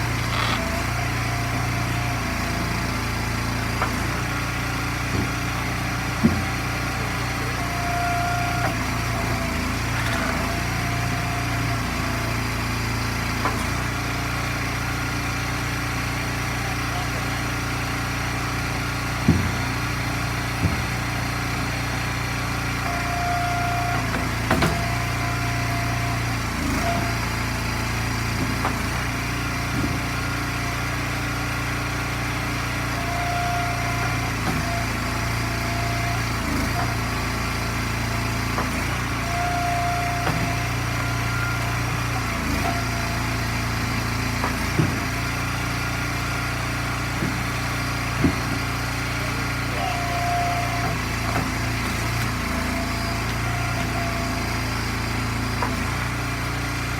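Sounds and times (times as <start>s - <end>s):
log splitter engine running: 0.0s - 56.9s.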